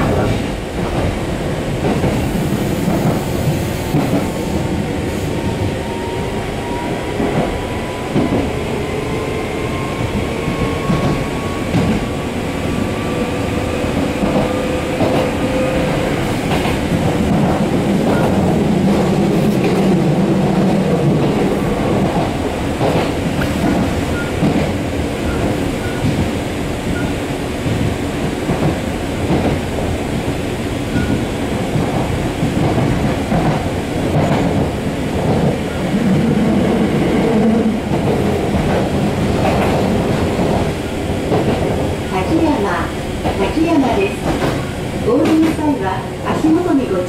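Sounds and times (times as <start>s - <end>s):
train wheel rumble: 0.0s - 47.0s.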